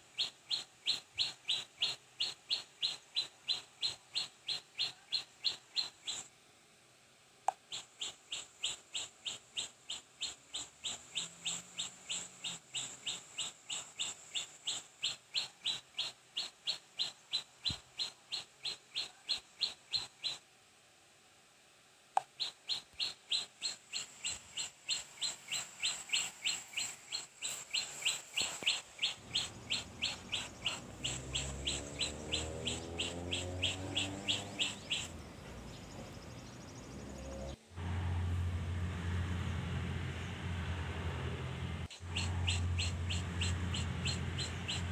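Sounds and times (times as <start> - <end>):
small bird chirping: 0.0 - 6.3, 7.6 - 20.4, 22.2 - 37.6, 41.8 - 44.9.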